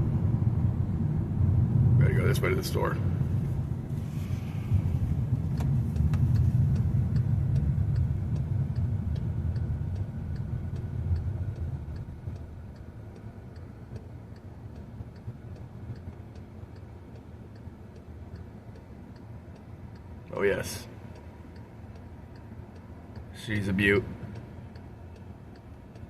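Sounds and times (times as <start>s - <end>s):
car engine and road rumble: 0.0s - 26.0s
turn signal ticking: 2.2s - 26.0s.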